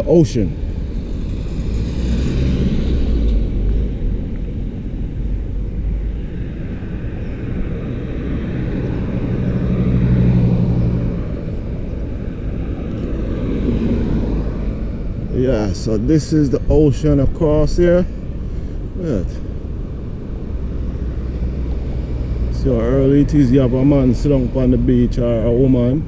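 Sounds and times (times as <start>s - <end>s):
road traffic rumble: 0.0s - 26.0s
vehicle engine passing: 0.0s - 26.0s.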